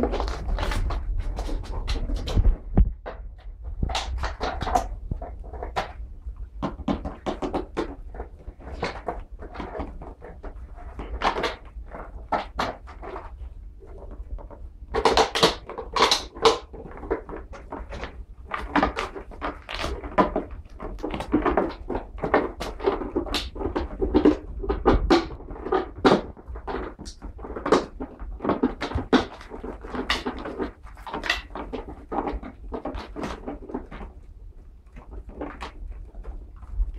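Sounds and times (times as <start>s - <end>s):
clattering and knocking: 0.0s - 36.9s.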